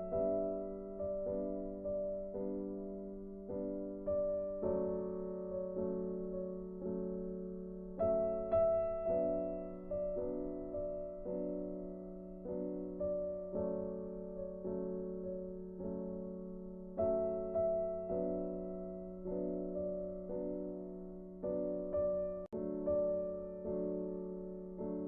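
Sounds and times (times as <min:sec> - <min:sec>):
soft piano chords: 0:00.0 - 0:25.0.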